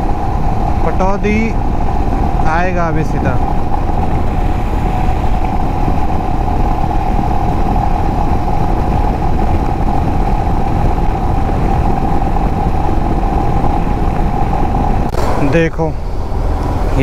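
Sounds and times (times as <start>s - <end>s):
motorcycle running steadily: 0.0s - 17.0s
wind noise over microphone: 0.0s - 17.0s.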